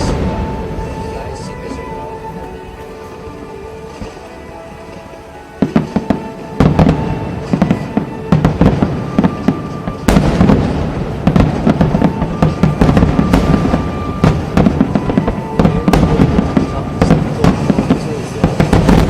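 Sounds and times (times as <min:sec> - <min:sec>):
fireworks cracking and booming: 0:00.0 - 0:03.0, 0:03.8 - 0:19.0
music: 0:00.0 - 0:19.0.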